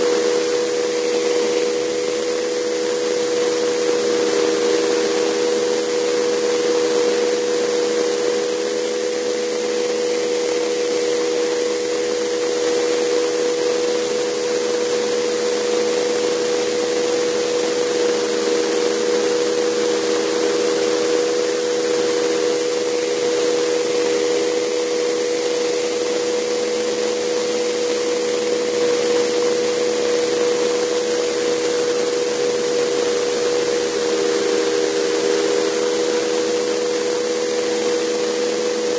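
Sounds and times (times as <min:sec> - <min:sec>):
model helicopter turbine hum: 0:00.0 - 0:38.9.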